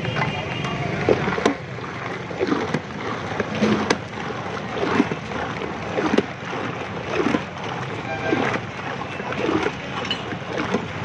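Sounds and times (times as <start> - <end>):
milk sloshing in a metal pot: 0.9 - 11.0.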